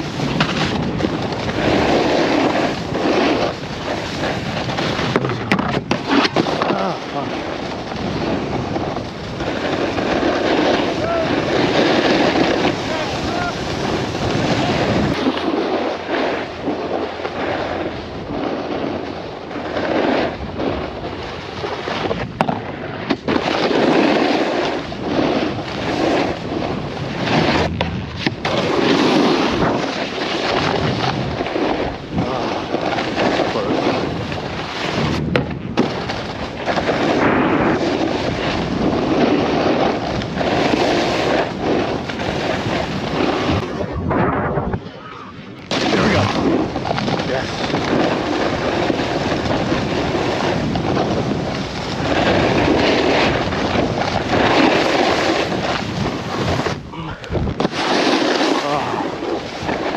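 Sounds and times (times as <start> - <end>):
wind buffeting microphone: 0.0 - 23.8, 24.4 - 57.9
snowboard edges scraping snow: 0.0 - 59.9.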